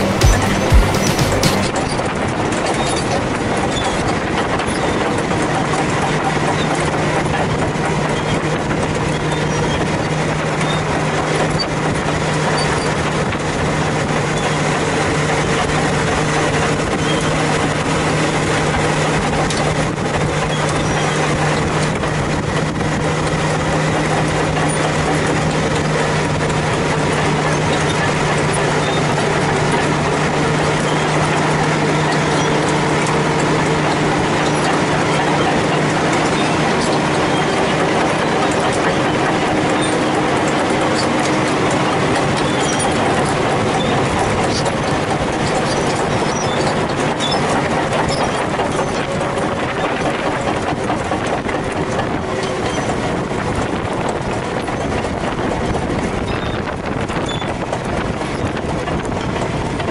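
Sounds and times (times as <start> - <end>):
diesel engine running under load: 0.0 - 59.9
steel tracks rattling: 0.0 - 59.9.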